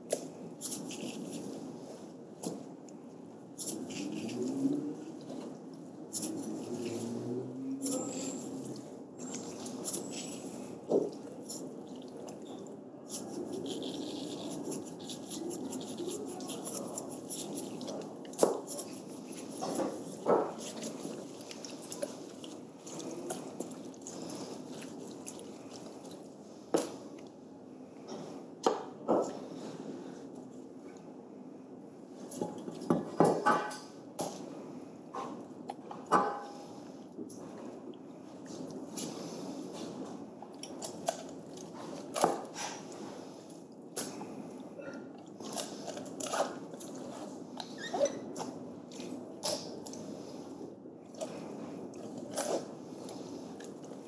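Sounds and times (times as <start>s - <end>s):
steady background noise: 0.0s - 54.0s.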